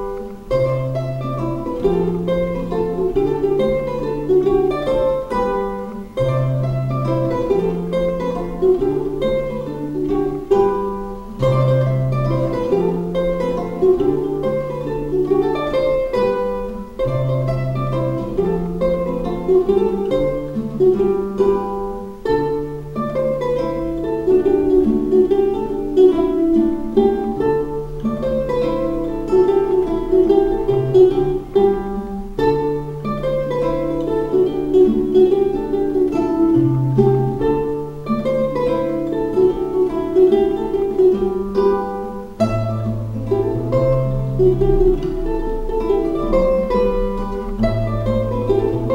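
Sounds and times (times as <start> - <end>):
ukulele and guitar playing: 0.0 - 48.9.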